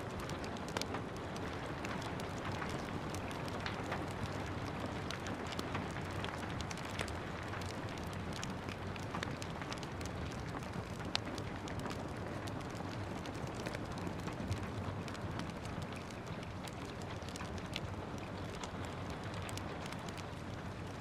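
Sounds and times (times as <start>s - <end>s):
steady rain: 0.0s - 21.0s
wood fire crackling and popping: 0.0s - 21.0s.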